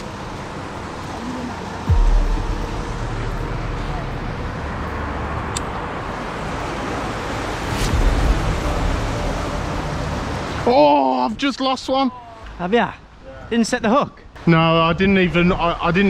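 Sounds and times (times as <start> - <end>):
distant city traffic: 0.0 - 16.0.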